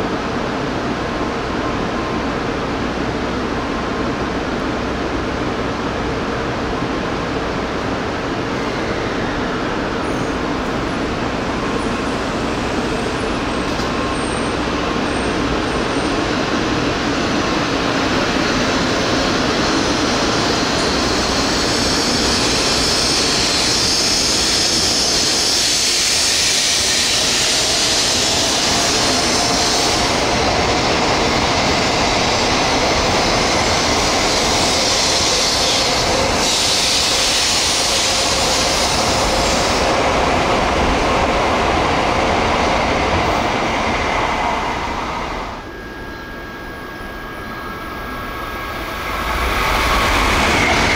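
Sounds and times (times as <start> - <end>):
high-speed train roar: 0.0 - 50.9.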